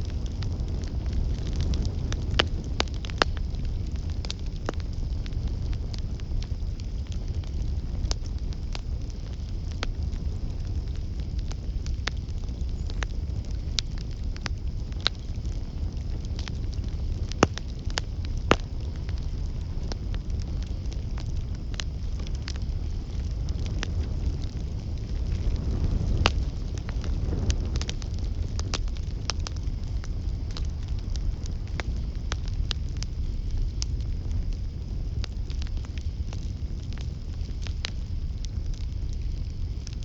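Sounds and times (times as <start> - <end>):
campfire crackling: 0.0 - 40.0
fire popping: 0.0 - 40.0
low steady rumble of fire: 0.0 - 40.0.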